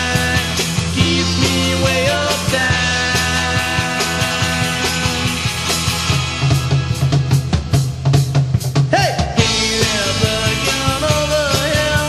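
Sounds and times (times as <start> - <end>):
garage rock band playing: 0.0 - 12.0
heavy bass line: 0.0 - 12.0
rapid drum hits: 0.0 - 12.0.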